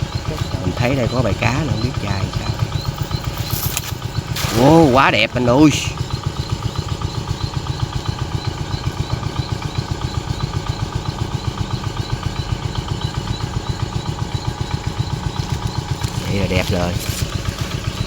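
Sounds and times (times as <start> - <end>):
small boat engine running: 0.0 - 18.0.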